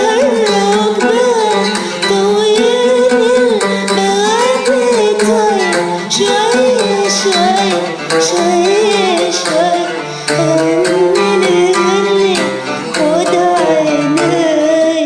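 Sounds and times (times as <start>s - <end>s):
instrumental backing with drum beat: 0.0s - 14.6s
woman singing: 0.0s - 15.0s.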